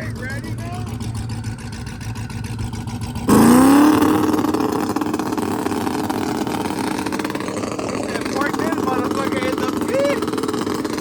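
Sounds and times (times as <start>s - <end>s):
car engine running low: 0.0s - 11.0s
engine revving high: 0.0s - 11.0s.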